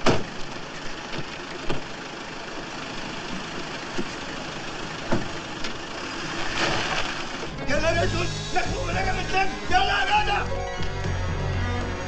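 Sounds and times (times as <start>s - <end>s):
van engine running: 0.0s - 12.0s.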